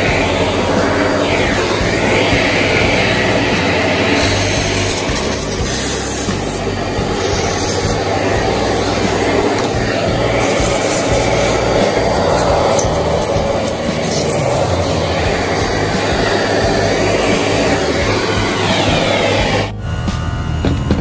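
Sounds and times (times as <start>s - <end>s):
small vacuum cleaner running: 0.0s - 21.0s.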